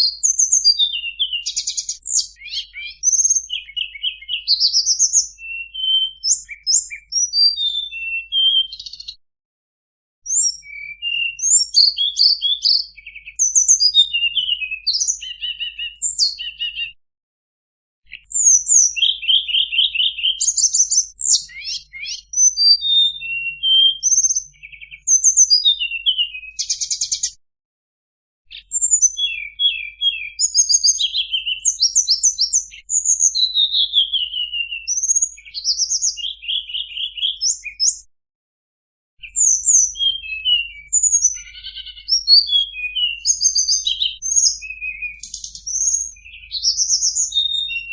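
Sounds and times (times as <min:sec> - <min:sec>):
recorded songbird song: 0:00.0 - 0:09.2, 0:10.2 - 0:17.0, 0:18.0 - 0:27.4, 0:28.5 - 0:38.1, 0:39.2 - 0:47.9.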